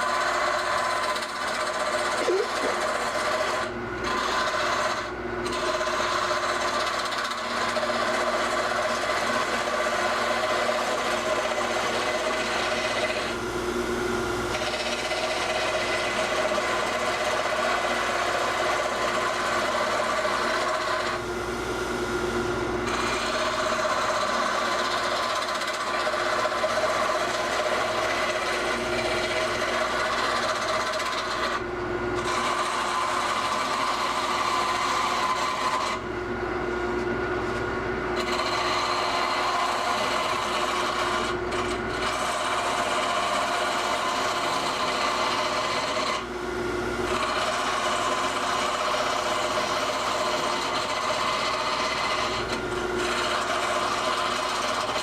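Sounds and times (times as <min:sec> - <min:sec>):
lathe humming: 0:00.0 - 0:55.0
tool scraping spinning wood: 0:00.0 - 0:55.0.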